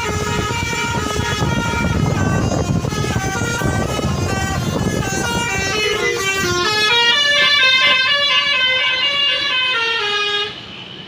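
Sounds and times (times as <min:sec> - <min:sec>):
bus horn playing a tune: 0:00.0 - 0:10.8.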